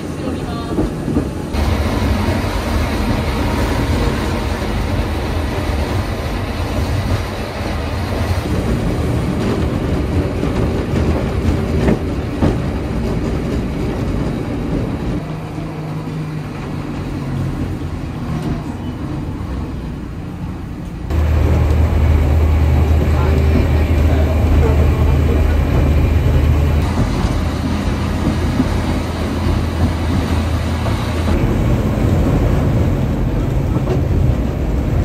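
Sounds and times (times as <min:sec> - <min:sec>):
train engine and wheels rumbling: 0:00.0 - 0:35.0.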